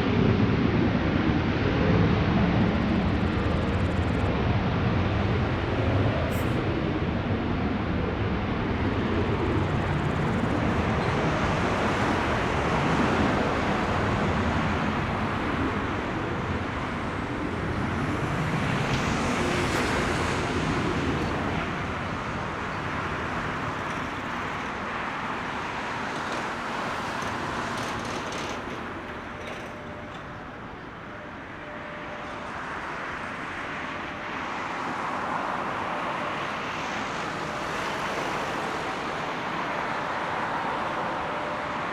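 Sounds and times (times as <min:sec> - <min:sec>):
jet engines at takeoff thrust: 0:00.0 - 0:41.9.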